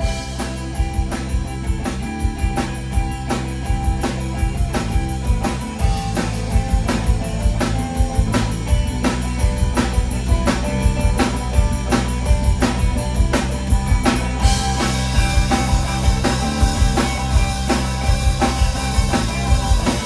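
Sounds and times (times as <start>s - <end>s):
bass and guitar: 0.0s - 20.0s
drum kit beat: 0.0s - 20.0s.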